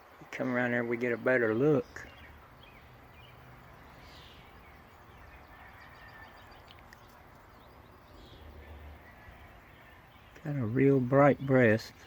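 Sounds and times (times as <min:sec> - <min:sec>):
faint bird chirps: 0:01.4 - 0:12.0.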